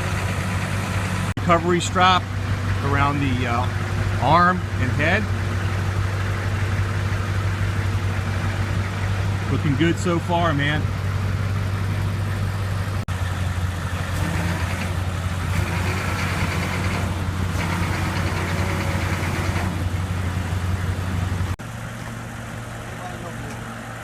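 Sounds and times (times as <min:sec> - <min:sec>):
tow truck engine running: 0:00.0 - 0:24.0
winch whine: 0:00.0 - 0:24.0.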